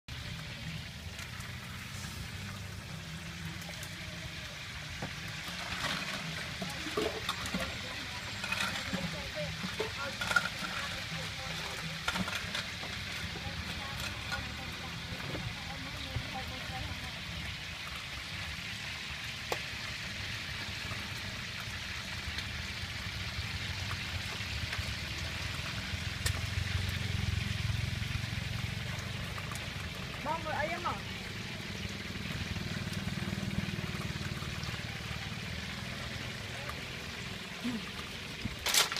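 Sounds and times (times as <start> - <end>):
fish sizzling on a grill: 0.1 - 38.9.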